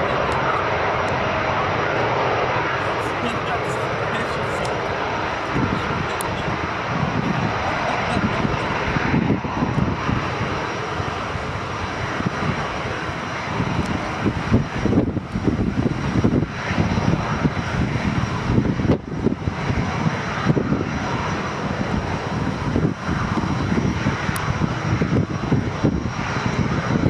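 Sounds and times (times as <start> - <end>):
jet engines rumbling at takeoff: 0.0 - 27.0.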